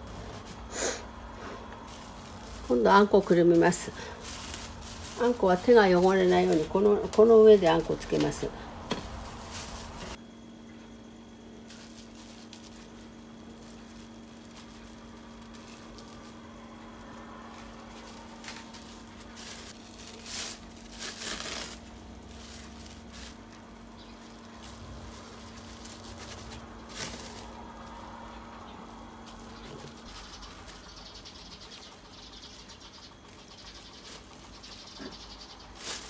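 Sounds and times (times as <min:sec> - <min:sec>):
steady low hum: 0:00.0 - 0:36.0
plastic wrap crinkling: 0:01.8 - 0:10.2, 0:11.5 - 0:34.9, 0:35.5 - 0:36.0.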